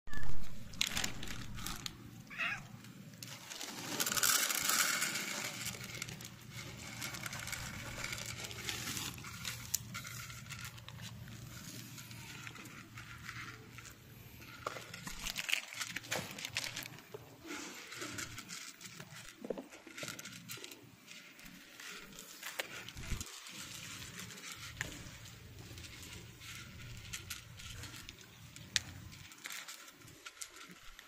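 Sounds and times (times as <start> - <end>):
cats crunching dry kibble: 0.1 - 31.0.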